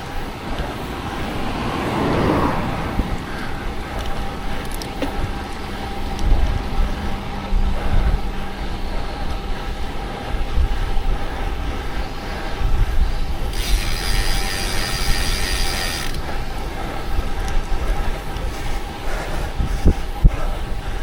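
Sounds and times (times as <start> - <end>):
wind rumble on microphone: 0.0 - 21.0
bicycle freehub ratcheting: 3.2 - 20.9.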